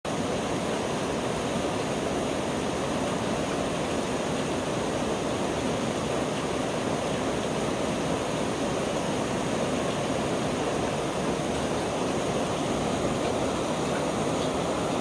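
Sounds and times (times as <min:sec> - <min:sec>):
rain falling on street: 0:00.1 - 0:15.0.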